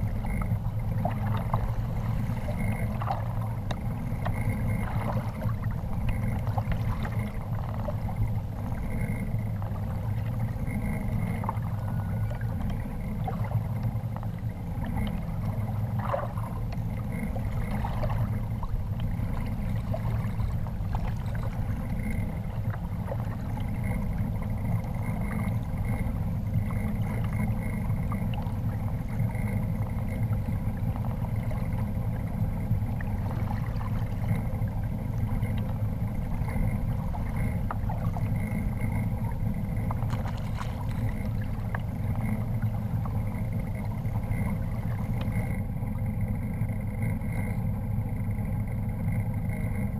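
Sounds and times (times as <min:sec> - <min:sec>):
water lapping against hull: 0:00.0 - 0:49.9.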